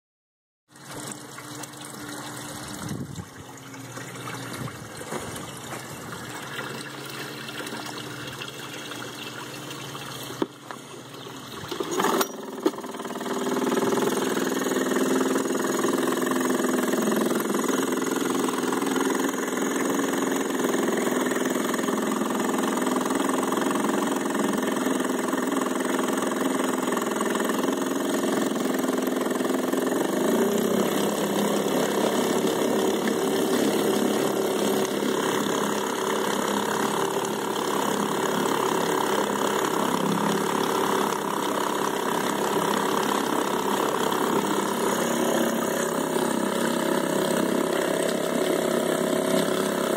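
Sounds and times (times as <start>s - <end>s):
outboard motor starting and idling: 0.7s - 49.9s
propeller churning water: 0.7s - 49.9s.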